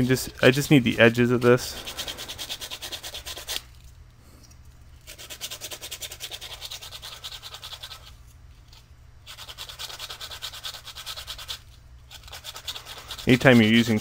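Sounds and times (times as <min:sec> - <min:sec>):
sandpaper rubbing on plastic: 0:00.0 - 0:03.6, 0:05.1 - 0:08.2, 0:09.2 - 0:14.0.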